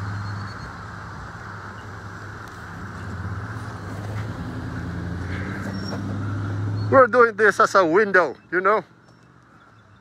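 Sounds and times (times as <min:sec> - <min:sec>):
car engines idling: 0:00.0 - 0:10.0.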